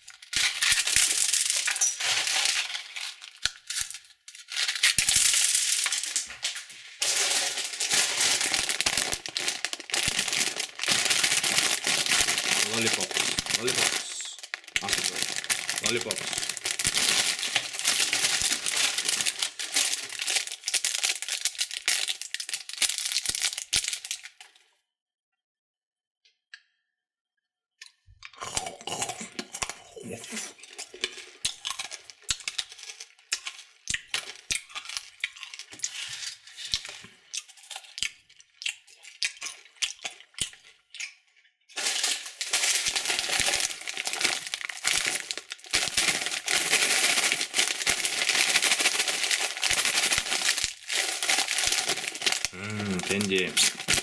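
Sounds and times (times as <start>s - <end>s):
plastic wrappers crinkling: 0.0s - 24.6s, 30.4s - 40.7s, 41.7s - 54.0s.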